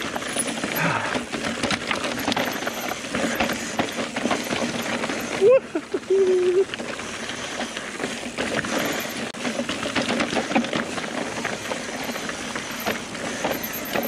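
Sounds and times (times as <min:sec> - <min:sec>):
mountain bike rattling on rocks: 0:00.0 - 0:14.0.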